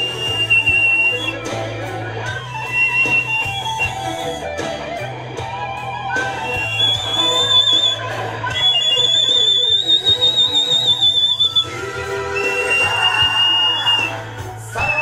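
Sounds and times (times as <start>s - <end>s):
high whistle-like melody: 0.0s - 4.6s, 5.8s - 15.0s
bass line: 0.0s - 15.0s
guitar: 0.0s - 15.0s.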